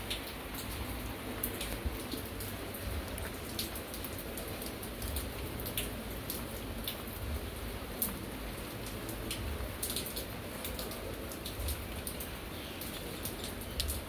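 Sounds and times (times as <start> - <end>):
rain falling: 0.0 - 14.0
raindrops ticking close by: 0.0 - 14.0.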